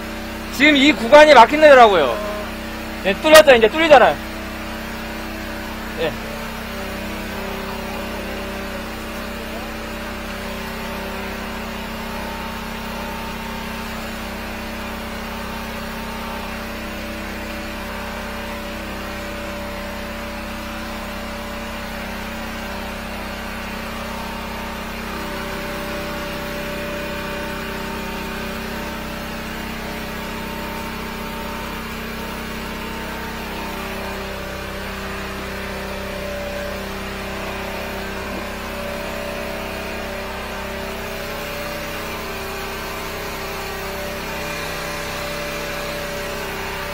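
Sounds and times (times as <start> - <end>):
sewer jetter engine running: 0.0 - 46.9.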